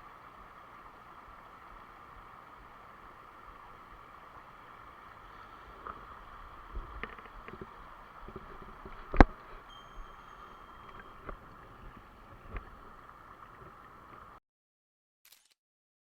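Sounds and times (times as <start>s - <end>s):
stream water running: 0.0s - 14.4s.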